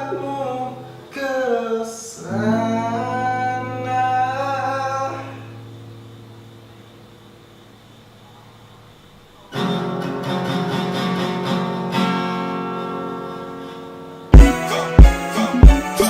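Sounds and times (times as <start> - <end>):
acoustic guitar strumming: 0.0 - 1.6, 2.2 - 7.0, 9.5 - 16.0.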